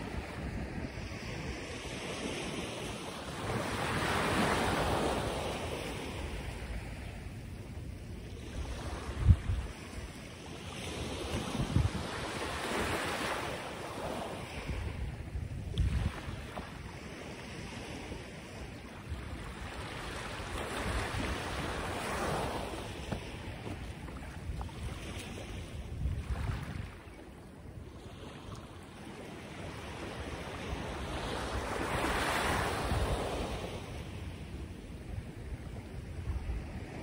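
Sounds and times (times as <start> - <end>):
surf washing in: 0.0 - 27.2, 27.8 - 37.0
wind rumbling on microphone: 0.0 - 37.0.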